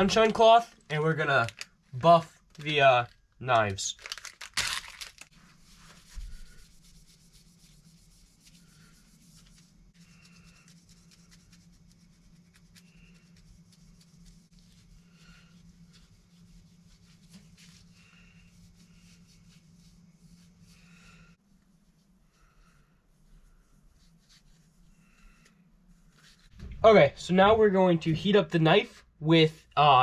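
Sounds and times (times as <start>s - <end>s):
steady low hum: 5.3s - 29.8s.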